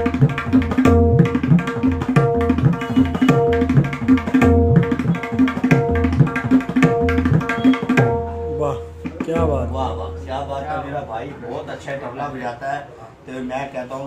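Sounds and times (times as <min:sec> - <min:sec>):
tabla drumming: 0:00.0 - 0:11.9.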